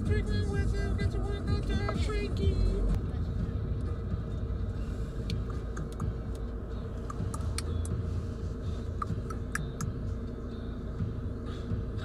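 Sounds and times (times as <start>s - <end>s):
van engine and tyre rumble: 0.0s - 12.0s.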